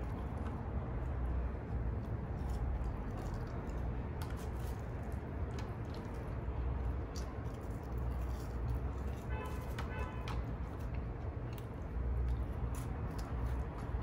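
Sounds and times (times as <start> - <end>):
person chewing: 2.0 - 14.0.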